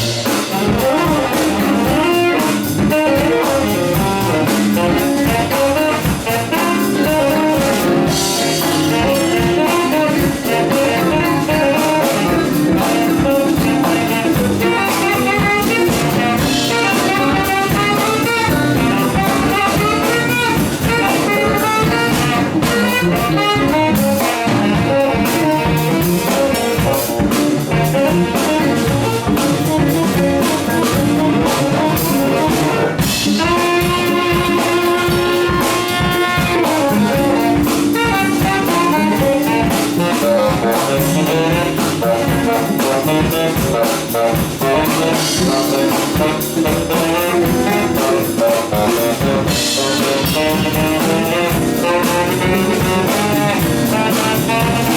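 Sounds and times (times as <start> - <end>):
drum kit groove: 0.0 - 54.9
guitar groove: 0.0 - 54.9
horn playing lead melody: 0.0 - 54.9.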